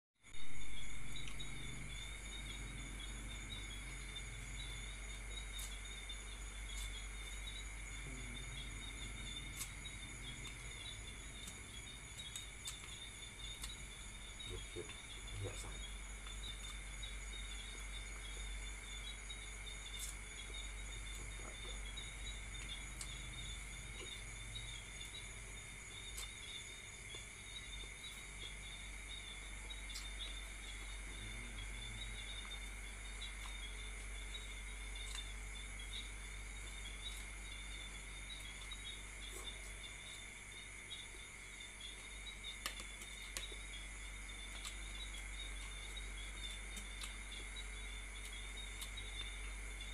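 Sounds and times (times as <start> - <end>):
crickets trilling: 0.2 - 49.9.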